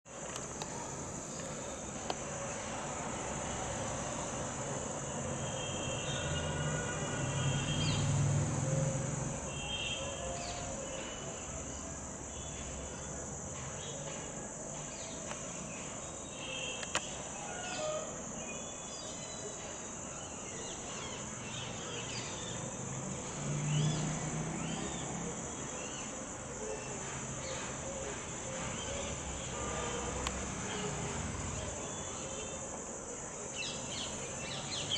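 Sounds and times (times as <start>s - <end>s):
high insect drone: 0.1s - 34.9s.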